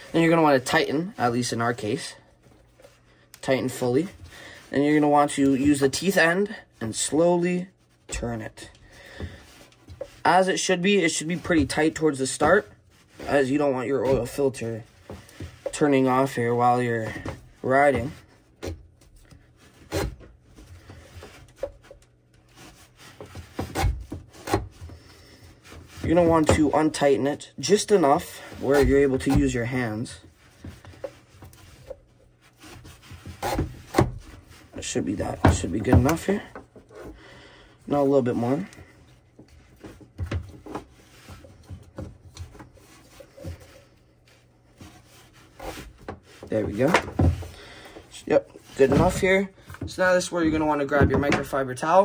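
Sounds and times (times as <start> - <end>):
metal and plastic rubbing: 0.0 - 52.0.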